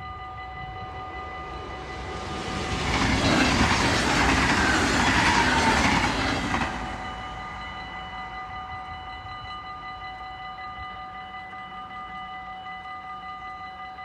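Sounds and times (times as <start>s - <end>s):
level crossing bell ringing: 0.0s - 14.0s
train wheel and rail noise: 0.0s - 14.0s.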